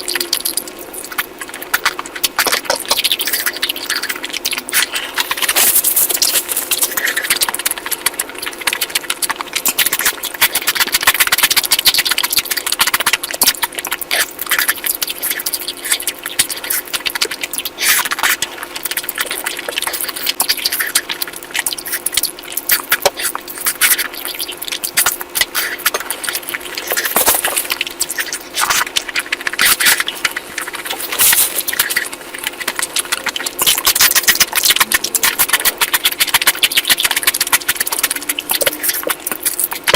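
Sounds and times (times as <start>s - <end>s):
lip smacking: 0.0s - 39.9s
mouth clicks: 0.0s - 39.9s
wet chewing: 0.0s - 39.9s.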